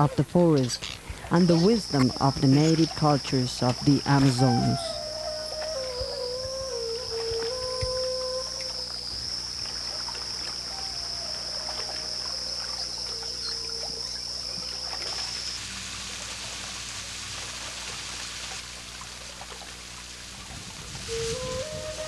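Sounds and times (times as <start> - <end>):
stream running: 0.0 - 22.0.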